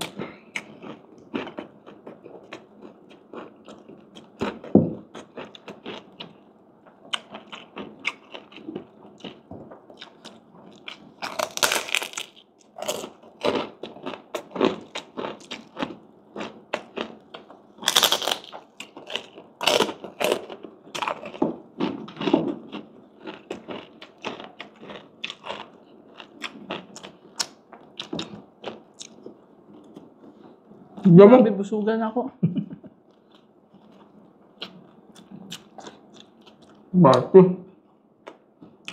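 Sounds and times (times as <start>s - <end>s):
person chewing crispy food: 0.0s - 31.0s, 33.0s - 36.9s, 38.2s - 38.9s.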